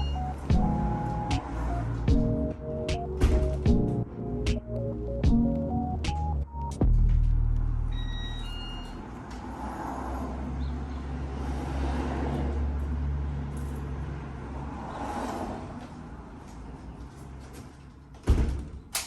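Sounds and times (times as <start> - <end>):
motor vehicle rumbling: 0.0 - 18.2.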